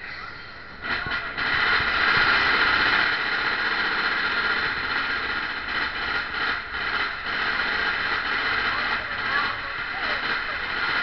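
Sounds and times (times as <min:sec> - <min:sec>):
roller coaster wheels on track: 0:00.7 - 0:11.0.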